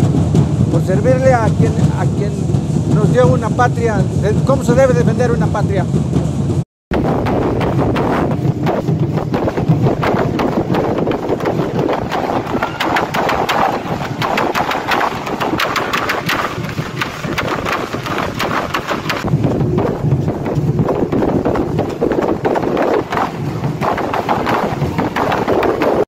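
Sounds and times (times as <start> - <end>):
ankle rattles shaking: 0.0 - 26.0.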